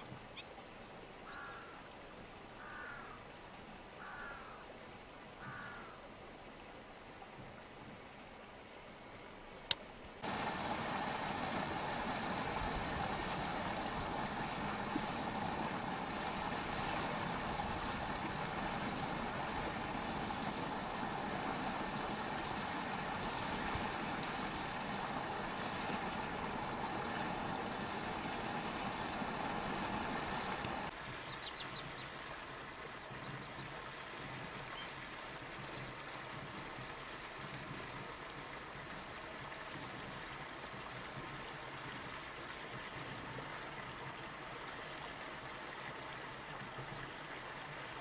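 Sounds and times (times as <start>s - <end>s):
engine-like running noise with hiss: 8.2s - 48.0s.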